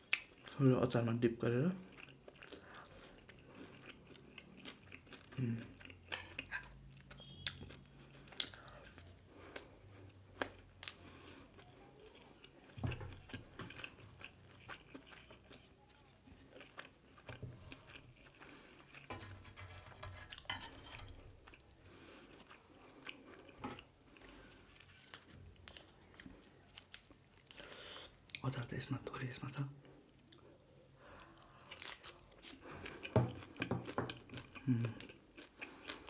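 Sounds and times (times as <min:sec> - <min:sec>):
chewing and crunching food: 0:00.0 - 0:01.0, 0:01.7 - 0:28.5, 0:29.8 - 0:36.0.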